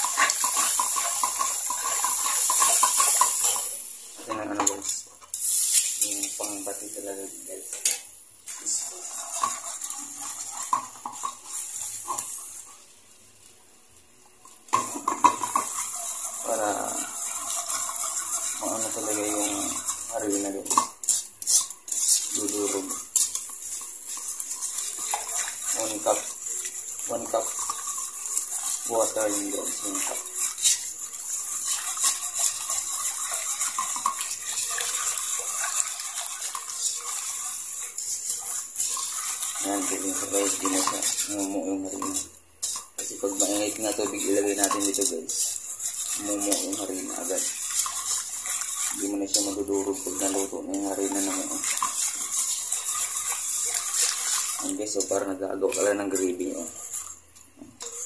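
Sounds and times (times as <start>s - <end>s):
hand sloshing batter in a wok: 0.0s - 7.6s, 8.5s - 12.9s, 14.7s - 58.0s
wire whisk scraping a metal pan: 0.0s - 12.9s, 14.7s - 57.2s, 57.8s - 58.0s
faint steady hiss: 0.0s - 58.0s.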